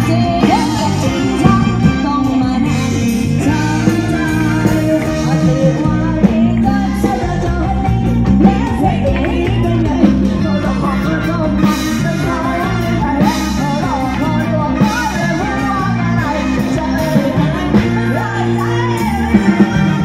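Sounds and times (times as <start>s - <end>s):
bass: 0.0s - 20.0s
drums: 0.0s - 20.0s
electric guitar: 0.0s - 20.0s
live band dance music: 0.0s - 20.0s
woman singing: 0.0s - 20.0s.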